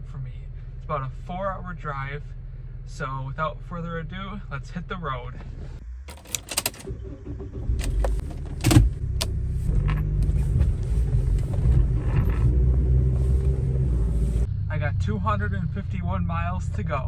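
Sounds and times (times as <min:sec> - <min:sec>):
car engine starting and running: 0:00.0 - 0:17.0.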